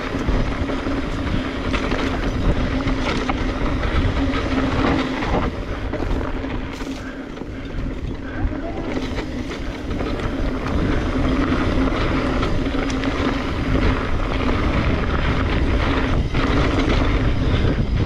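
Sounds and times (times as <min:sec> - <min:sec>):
bike tyres crunching over dirt: 0:00.0 - 0:18.0
steady low hum: 0:00.0 - 0:18.0
wind buffeting microphone: 0:00.0 - 0:18.0.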